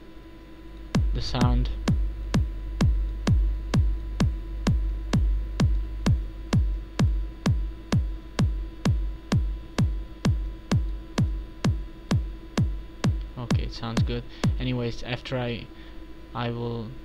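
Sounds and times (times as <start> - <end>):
electronic kick drum: 0.8 - 15.0.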